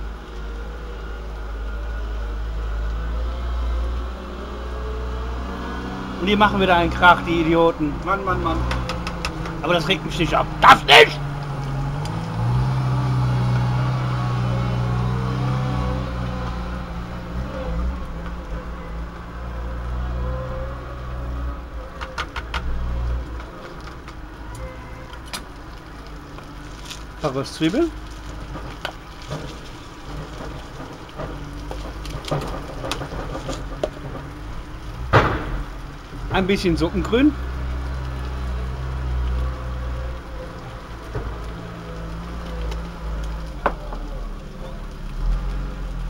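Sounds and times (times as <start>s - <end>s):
engine droning: 0.0s - 46.0s.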